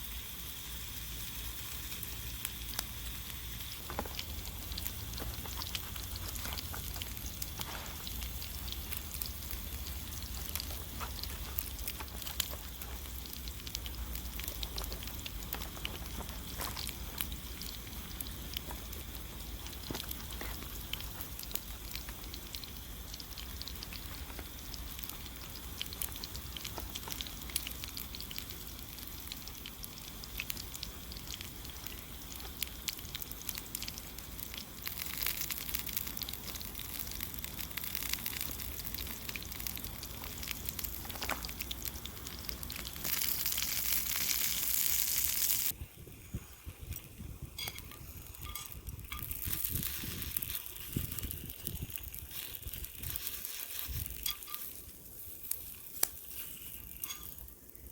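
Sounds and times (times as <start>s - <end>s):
campfire crackling and sizzling: 0.0s - 57.9s.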